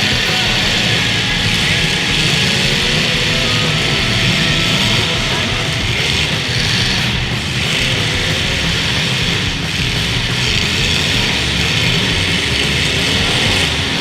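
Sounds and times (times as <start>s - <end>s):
car engines running: 0.0s - 14.0s
loud rock music: 0.0s - 14.0s.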